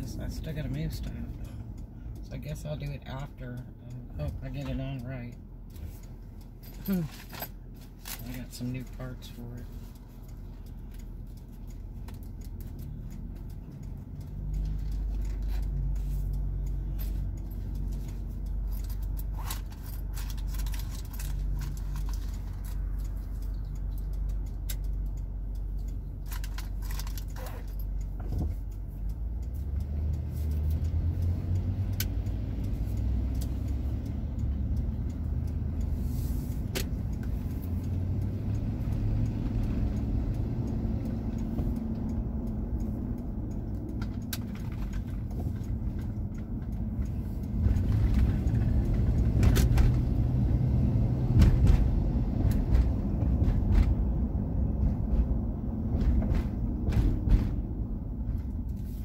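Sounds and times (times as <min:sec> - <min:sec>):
car engine rumble from inside: 0:00.0 - 0:59.0
light clicks and rattles: 0:00.0 - 0:59.0.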